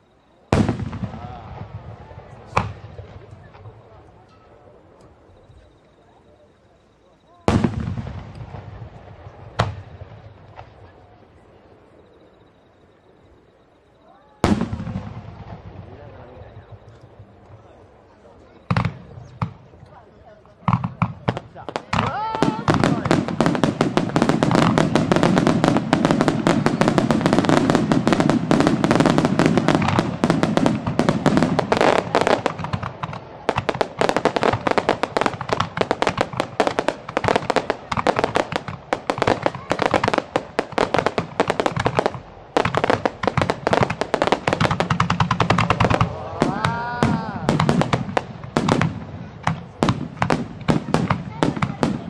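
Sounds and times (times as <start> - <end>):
fireworks bangs and crackles: 0.0 - 12.5, 14.0 - 52.0.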